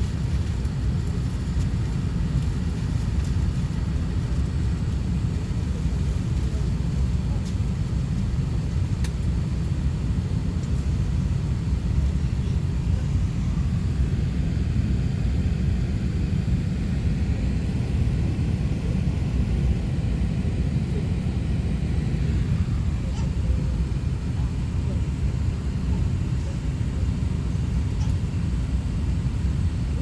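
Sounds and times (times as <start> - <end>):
airplane cabin low rumble: 0.0 - 30.0.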